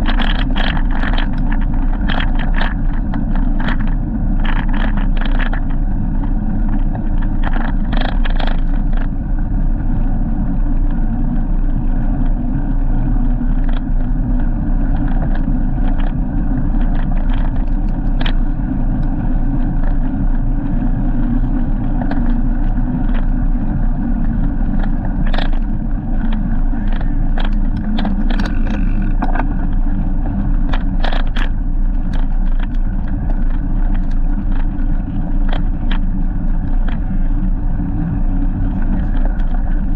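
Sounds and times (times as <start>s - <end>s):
bike rumbling on the move: 0.0s - 39.9s
sharp clicks and rattles: 0.0s - 39.9s
wind and road noise: 0.0s - 39.9s.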